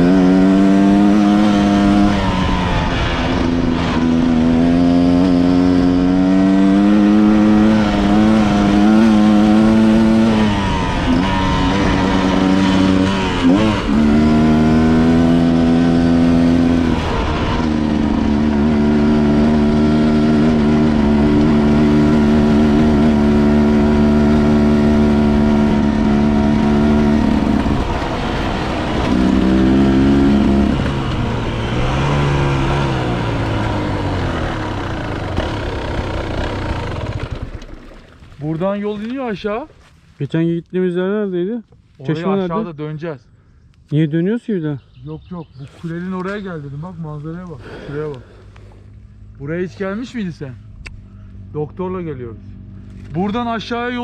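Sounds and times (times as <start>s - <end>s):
motorcycle engine revving: 0.0s - 38.3s, 45.8s - 54.0s.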